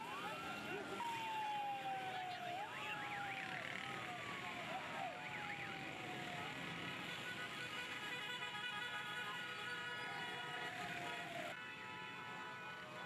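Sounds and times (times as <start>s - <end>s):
vehicle siren wailing: 0.0s - 11.6s
crowd and traffic noise: 0.0s - 13.0s.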